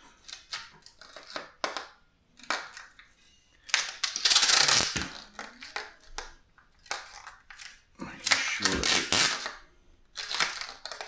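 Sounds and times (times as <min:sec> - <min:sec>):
tape pulled off roll crackling: 0:00.0 - 0:11.0.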